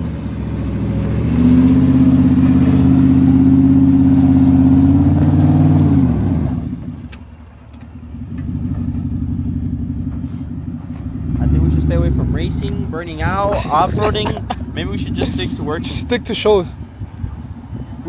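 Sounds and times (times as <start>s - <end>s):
quieter engine running: 0.0s - 18.0s
truck engine revving: 0.0s - 18.0s.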